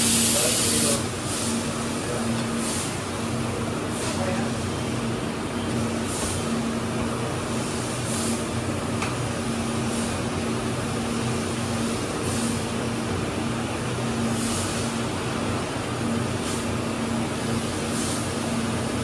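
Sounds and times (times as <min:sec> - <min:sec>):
industrial equipment humming: 0:00.0 - 0:19.0.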